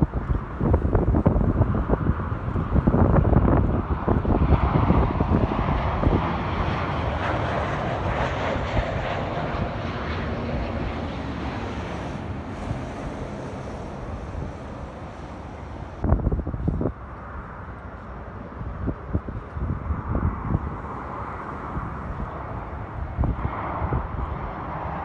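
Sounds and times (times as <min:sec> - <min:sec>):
jet airliner passing overhead: 0:00.0 - 0:25.0
wind buffeting microphone: 0:00.0 - 0:25.0.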